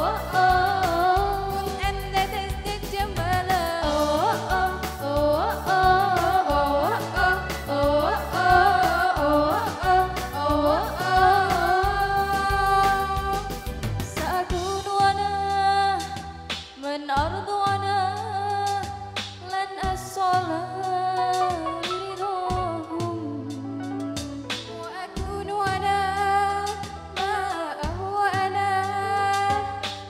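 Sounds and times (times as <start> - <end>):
electronic keyboard with steady beat: 0.0 - 15.2, 18.7 - 30.0
young women singing: 0.0 - 24.0, 24.7 - 30.0.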